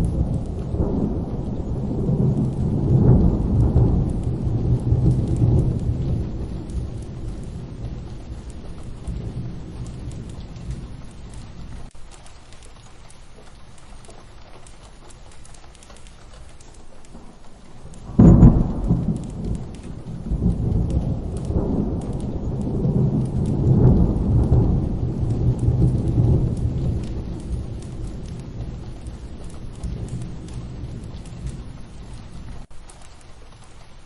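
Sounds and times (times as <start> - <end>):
rolling thunder: 0.0 - 12.2, 16.0 - 32.7
steady rain: 0.0 - 34.0
thunderclap: 0.0 - 34.0.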